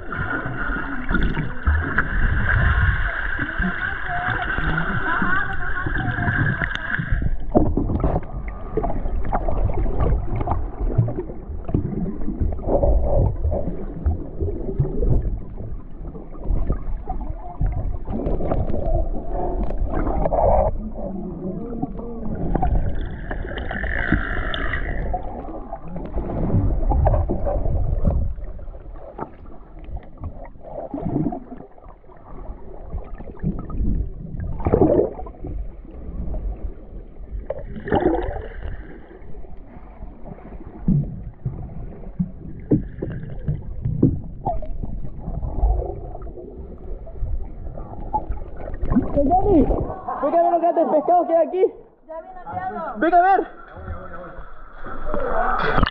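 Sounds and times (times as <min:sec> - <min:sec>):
bubbling: 0:00.0 - 0:50.4, 0:53.5 - 0:55.9
underwater rumbling and gurgling: 0:00.0 - 0:50.7, 0:51.8 - 0:55.9.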